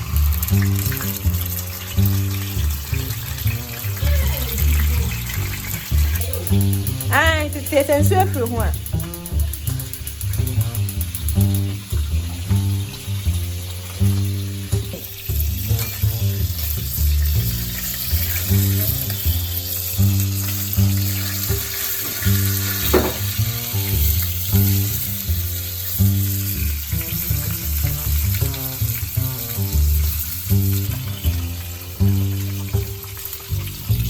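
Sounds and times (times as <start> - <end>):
food frying sizzle: 0.0 - 34.0.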